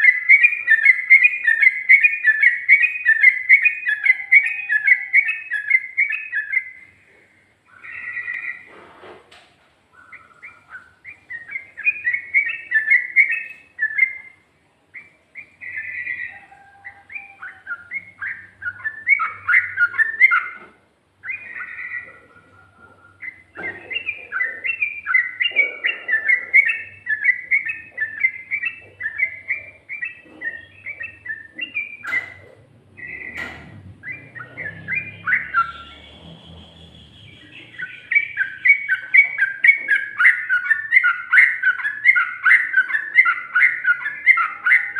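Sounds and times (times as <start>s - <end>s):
bird bubbly chattering song: 0.0s - 7.0s, 9.9s - 20.6s, 21.2s - 44.9s.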